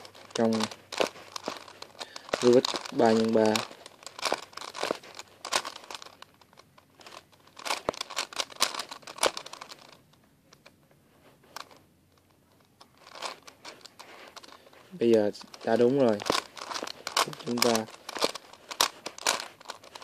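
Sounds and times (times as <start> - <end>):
puzzle cube clicking and scraping: 0.0 - 20.0.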